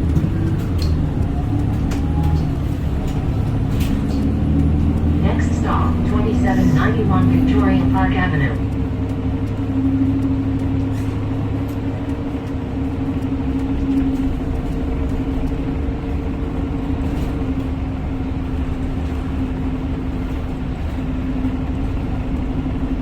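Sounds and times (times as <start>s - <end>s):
higher hum: 0.0s - 22.7s
bus engine hum: 0.0s - 23.0s
low road rumble: 0.0s - 23.0s.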